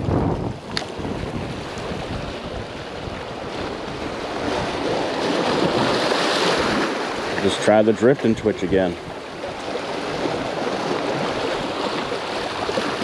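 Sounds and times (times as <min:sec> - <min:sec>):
wind on microphone: 0:00.0 - 0:07.5, 0:08.1 - 0:13.0
surf washing against rocks: 0:00.0 - 0:13.0.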